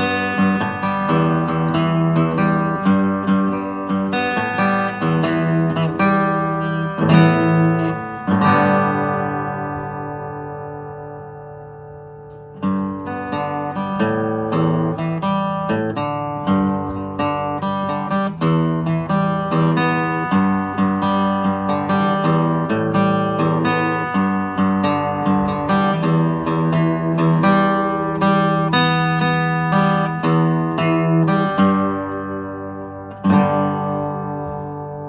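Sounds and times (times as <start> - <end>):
acoustic guitar playing: 0.0 - 35.0.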